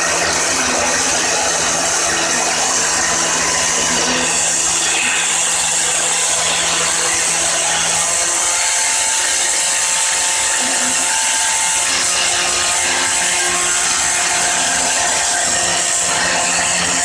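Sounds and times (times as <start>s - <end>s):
power tool running with hiss: 0.0s - 17.0s.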